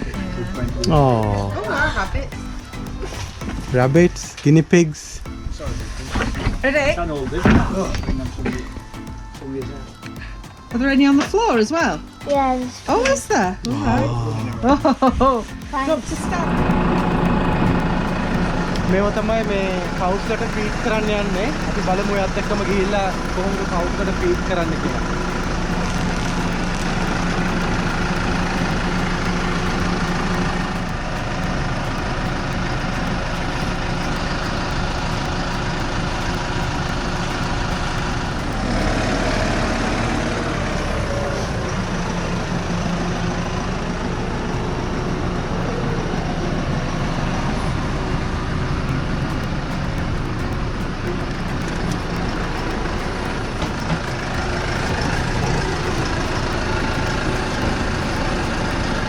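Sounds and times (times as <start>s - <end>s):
farm vehicle engine running: 0.0s - 59.0s.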